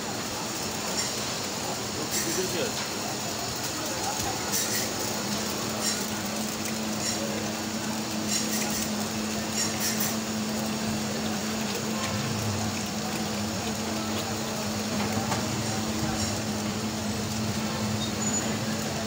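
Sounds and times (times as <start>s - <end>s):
constant hiss: 0.0s - 19.0s.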